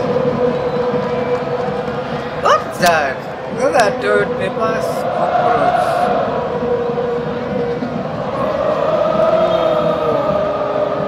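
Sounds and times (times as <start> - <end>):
stadium crowd noise: 0.0 - 11.0.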